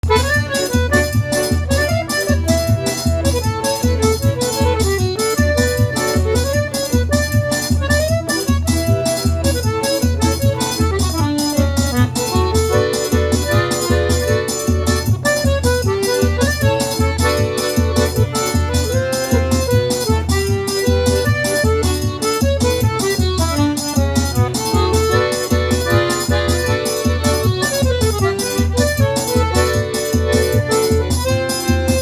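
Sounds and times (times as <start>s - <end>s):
accordion melody: 0.0s - 32.0s.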